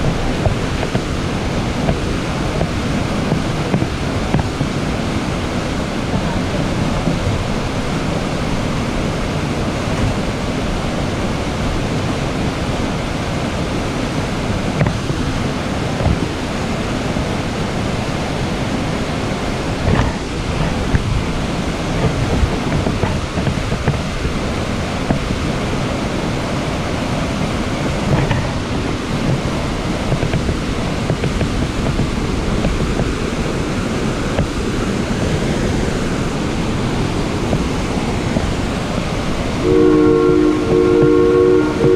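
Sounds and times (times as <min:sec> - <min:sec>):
steam train running: 0:00.0 - 0:41.9
wind on microphone: 0:00.0 - 0:41.9.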